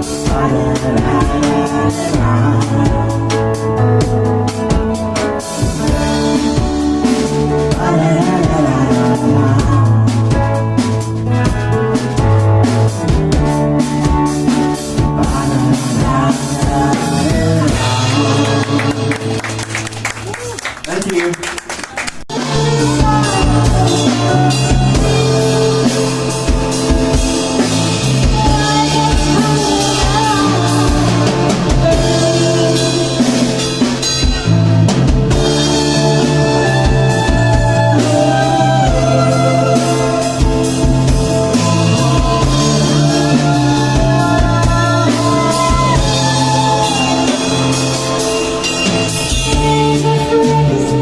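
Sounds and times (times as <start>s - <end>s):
rock band playing live: 0.0s - 51.0s.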